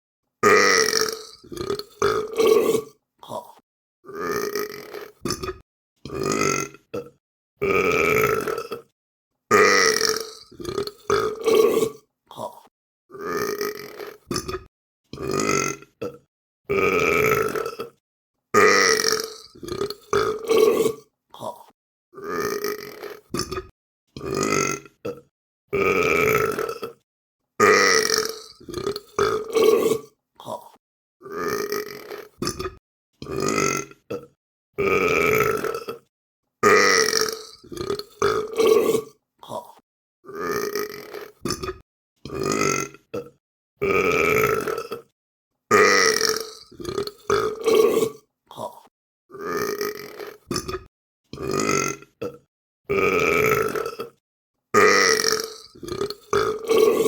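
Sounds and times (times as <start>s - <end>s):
person burping: 0.4s - 18.0s, 18.6s - 27.0s, 27.6s - 54.2s, 54.8s - 57.0s.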